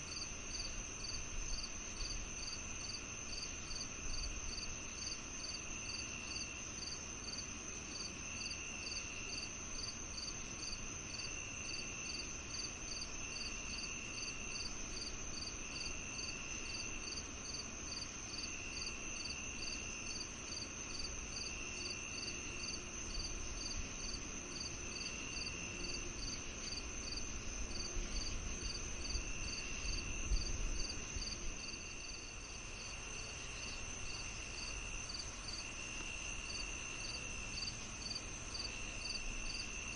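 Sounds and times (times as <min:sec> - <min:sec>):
cricket chirping: 0:00.0 - 0:39.9
lower insect trill: 0:00.0 - 0:39.9
insects trilling: 0:00.1 - 0:39.9.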